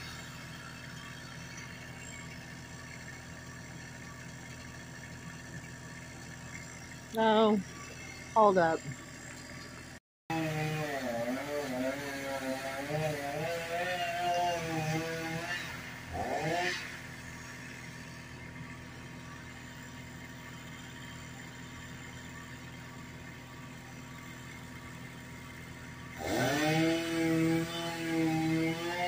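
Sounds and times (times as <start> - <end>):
chainsaw revving and idling: 0.0 - 29.0.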